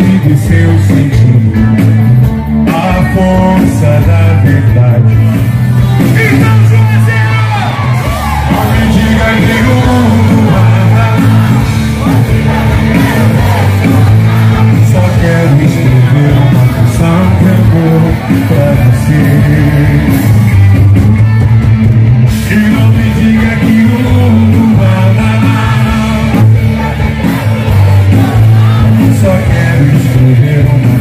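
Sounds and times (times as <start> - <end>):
person singing: 0.0 - 7.1, 7.8 - 20.6, 22.3 - 31.0
rock band playing: 0.0 - 31.0.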